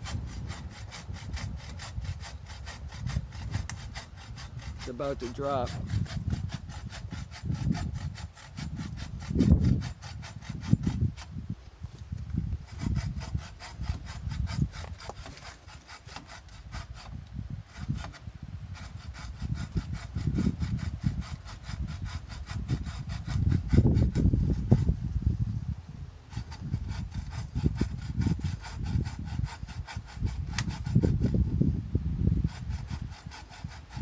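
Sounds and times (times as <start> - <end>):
hand saw cutting wood: 0.0 - 25.2, 26.3 - 34.0.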